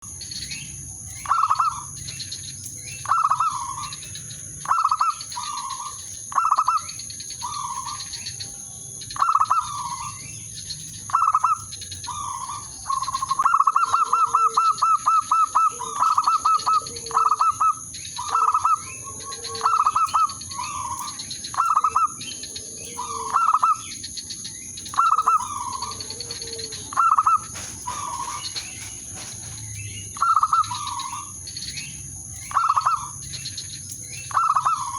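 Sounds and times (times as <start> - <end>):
dove cooing: 1.2 - 2.0, 3.0 - 8.3, 9.2 - 10.4, 11.1 - 31.9, 32.5 - 33.3, 34.0 - 34.9.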